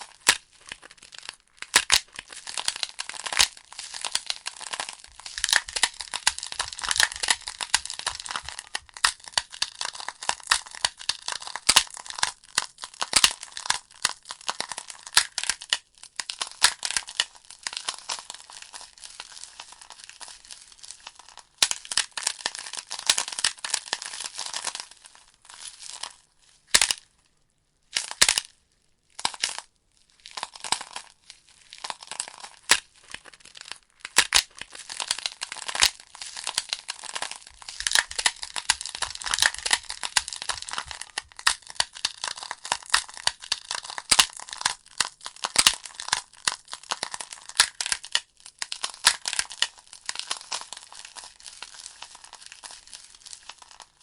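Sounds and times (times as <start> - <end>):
burning logs crackling and popping: 0.0 - 24.4, 32.6 - 54.0.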